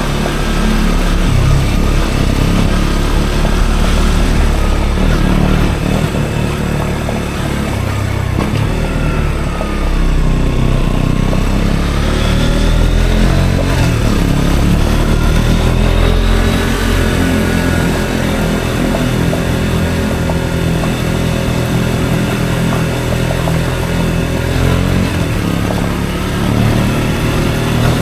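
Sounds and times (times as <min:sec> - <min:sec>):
motorcycle engine riding: 0:00.0 - 0:28.0.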